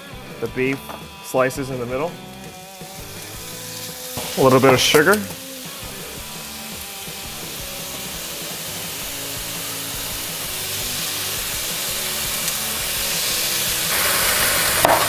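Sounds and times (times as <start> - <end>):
background music: 0.0 - 15.0
food sizzling in an oiled pan: 0.0 - 15.0.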